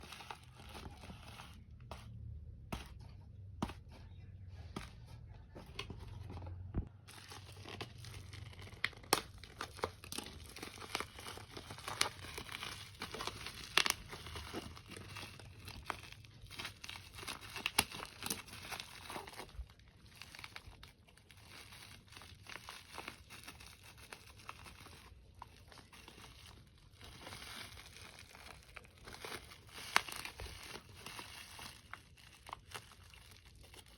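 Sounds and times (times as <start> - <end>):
plastic packaging crinkling and tearing: 0.0 - 1.8, 6.8 - 33.9.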